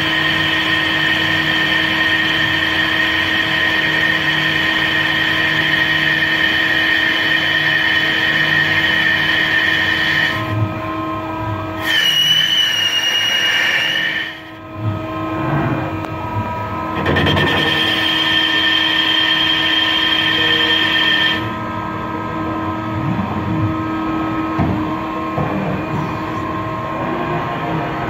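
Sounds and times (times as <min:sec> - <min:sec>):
high-pitched whine: 0:00.0 - 0:22.8
lathe machine hum: 0:00.0 - 0:28.0.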